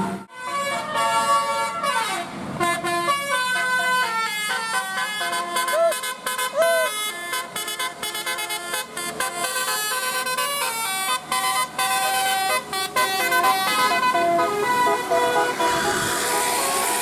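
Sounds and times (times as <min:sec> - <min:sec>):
multi-tone bus horn tune: 0:00.0 - 0:17.0.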